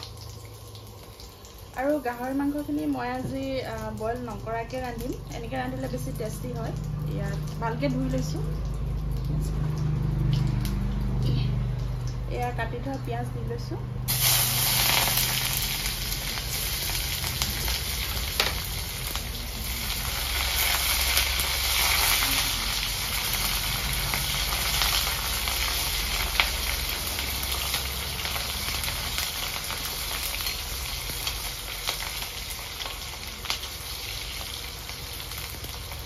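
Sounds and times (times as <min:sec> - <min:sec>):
onions sizzling in a wok: 0:00.0 - 0:36.0.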